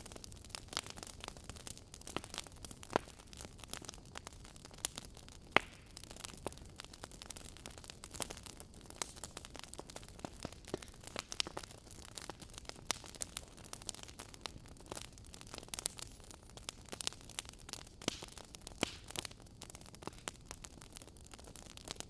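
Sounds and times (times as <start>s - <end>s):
faint steady hiss: 0.0s - 22.0s
sharp pops of fire: 0.0s - 22.0s
wood fire crackling: 0.0s - 22.0s.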